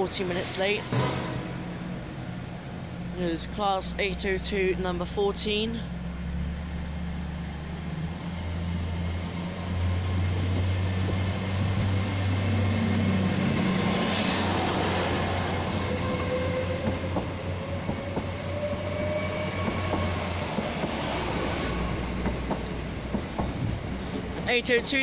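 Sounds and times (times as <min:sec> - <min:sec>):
rising train whine: 0:00.0 - 0:25.0
train diesel engine drone: 0:00.0 - 0:25.0.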